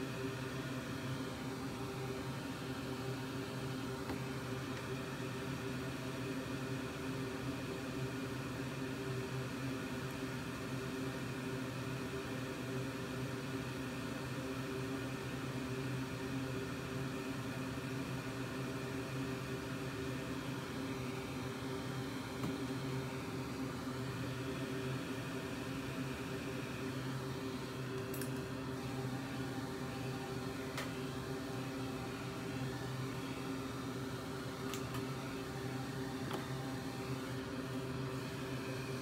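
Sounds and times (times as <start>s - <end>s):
electric fan whirring: 0.0s - 39.0s.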